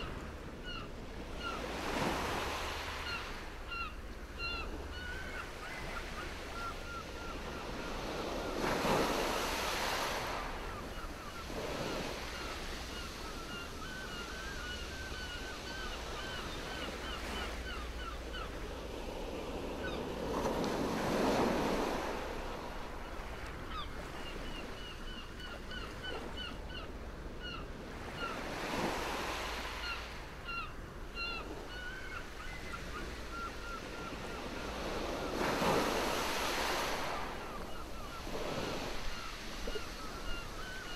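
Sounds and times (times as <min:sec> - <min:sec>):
sea waves washing ashore: 0:00.0 - 0:24.7, 0:32.4 - 0:40.9.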